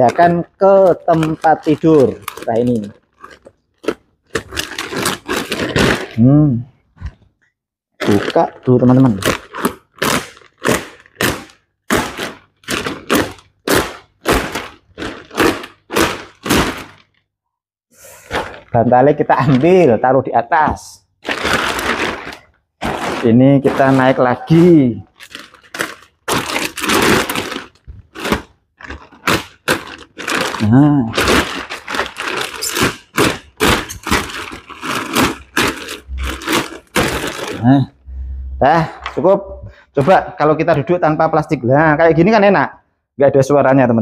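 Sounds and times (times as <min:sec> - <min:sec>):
plastic wrapping crinkling: 0:00.0 - 0:06.4, 0:08.0 - 0:17.2, 0:18.2 - 0:19.9, 0:21.2 - 0:39.4.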